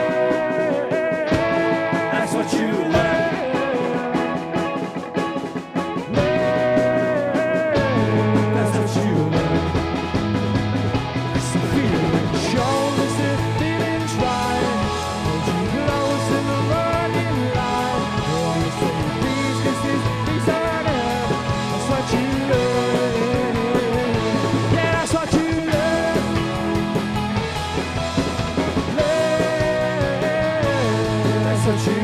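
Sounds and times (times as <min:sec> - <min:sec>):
indie rock band playing: 0:00.0 - 0:32.0
wavering melodic lead line: 0:00.0 - 0:32.0.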